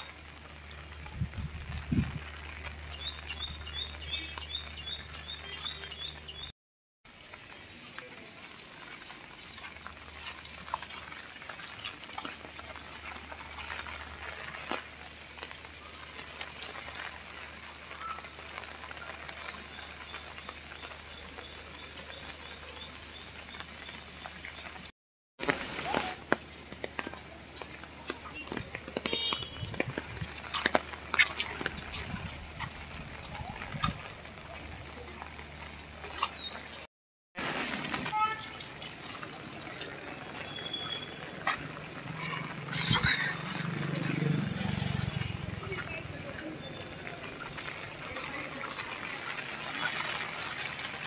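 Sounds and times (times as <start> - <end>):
rain pattering: 0.0 - 6.5, 7.1 - 51.0.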